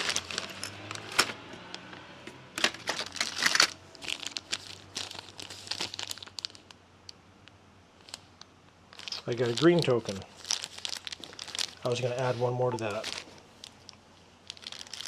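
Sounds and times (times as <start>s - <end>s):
packaging crinkling and rustling: 0.0s - 6.8s, 8.0s - 15.0s.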